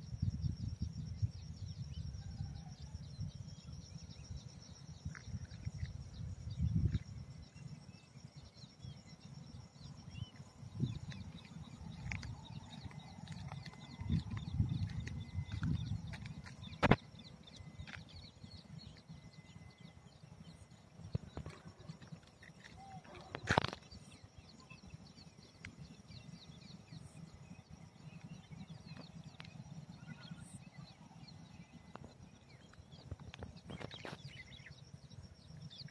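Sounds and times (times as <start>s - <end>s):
high insect drone: 0.0s - 35.9s
bird chirps: 3.9s - 35.9s.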